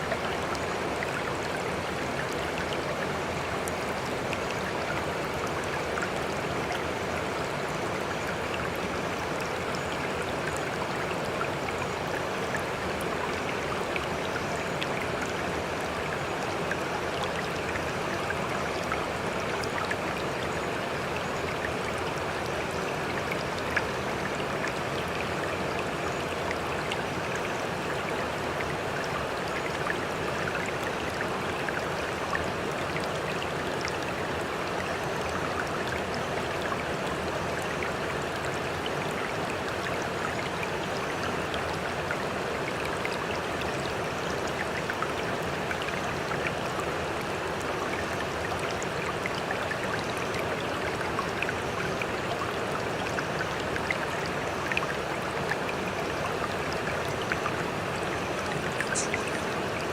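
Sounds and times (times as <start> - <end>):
water rushing and splashing: 0.0 - 59.9.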